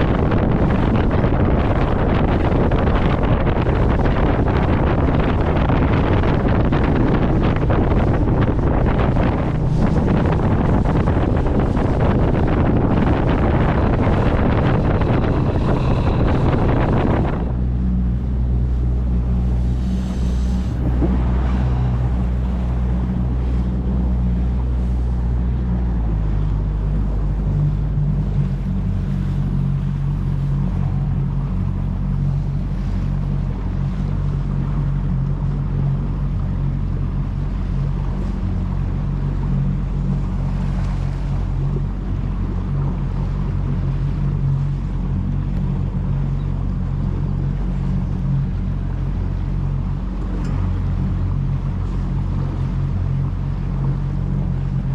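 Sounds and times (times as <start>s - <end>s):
boat motor droning: 0.0s - 54.9s
wind buffeting microphone: 0.0s - 54.9s.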